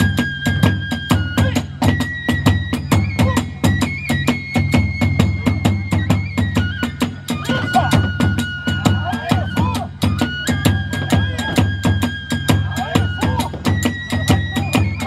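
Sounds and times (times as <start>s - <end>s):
bamboo flute long notes: 0.0s - 15.0s
big drum beating: 0.0s - 15.0s.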